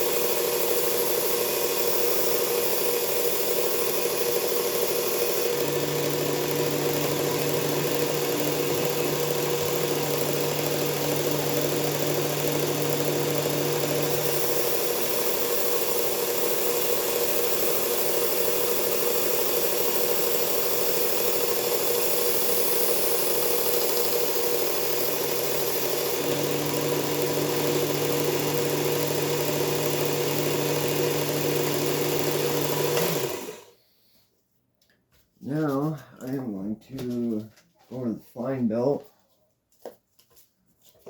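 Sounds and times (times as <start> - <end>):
belt sharpener grinding knife: 0.0 - 33.6.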